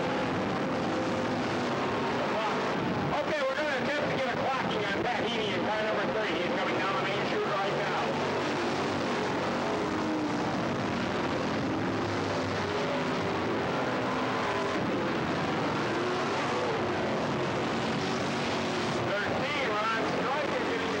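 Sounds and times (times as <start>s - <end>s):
stock car engines racing: 0.0s - 21.0s.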